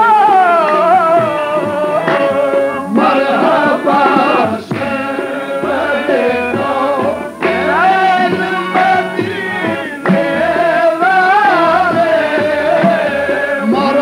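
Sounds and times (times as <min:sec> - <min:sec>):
harmonium tones: 0:00.0 - 0:14.0
person singing long notes: 0:00.0 - 0:14.0.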